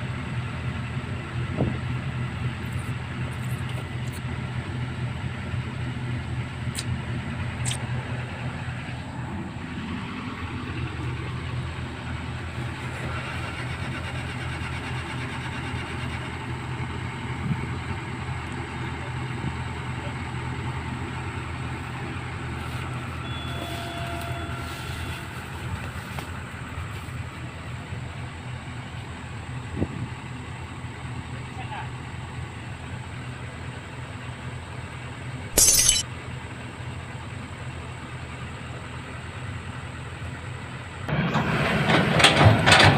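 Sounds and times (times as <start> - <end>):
heavy diesel engine droning: 0.0 - 35.5, 36.1 - 42.9.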